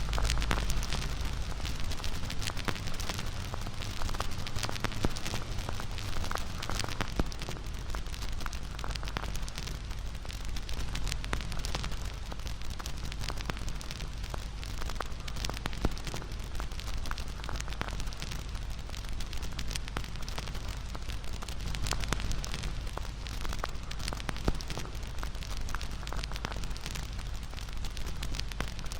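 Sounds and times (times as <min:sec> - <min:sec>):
low roar of flames: 0:00.0 - 0:28.7
wood fire crackling and popping: 0:00.0 - 0:28.9.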